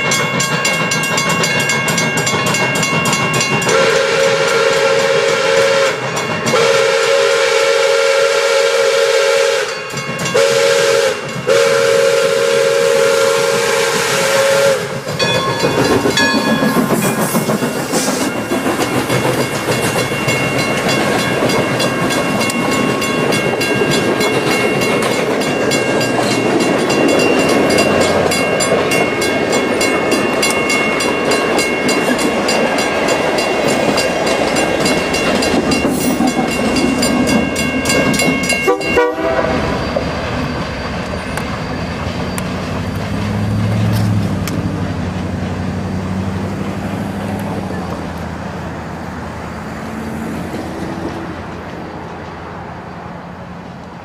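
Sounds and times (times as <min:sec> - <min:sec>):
steam train rolling past: 0:00.0 - 0:54.0.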